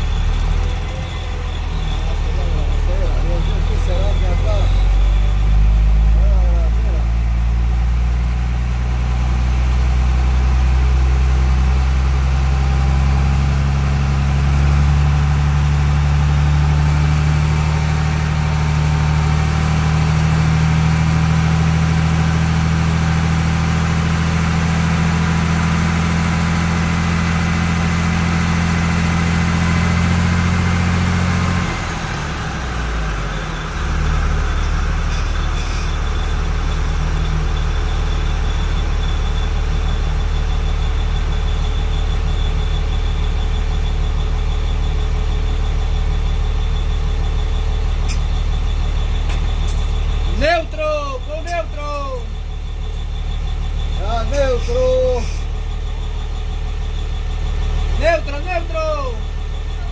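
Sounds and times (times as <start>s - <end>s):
diesel engine low drone: 0.0s - 59.9s.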